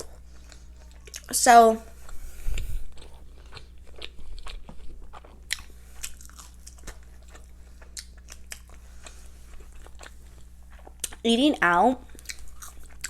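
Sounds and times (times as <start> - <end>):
person chewing food: 0.0 - 1.3, 1.9 - 11.2, 12.1 - 13.0.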